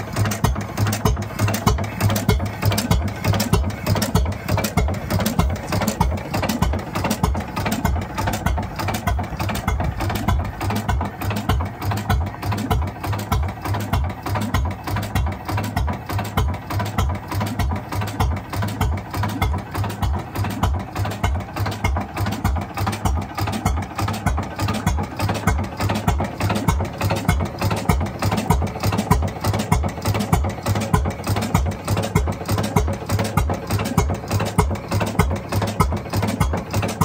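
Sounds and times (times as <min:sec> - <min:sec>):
single-cylinder engine running: 0:00.0 - 0:37.0.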